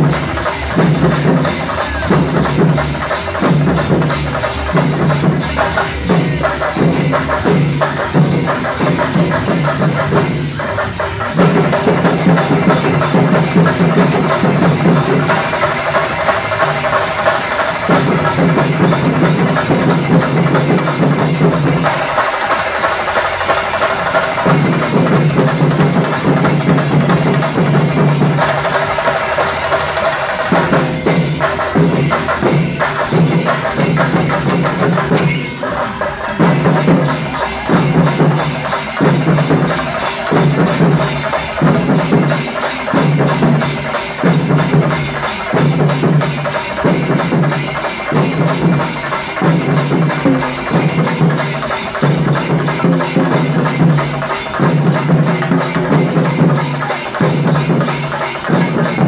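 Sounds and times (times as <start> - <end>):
drum ensemble beating: 0.0 - 59.0.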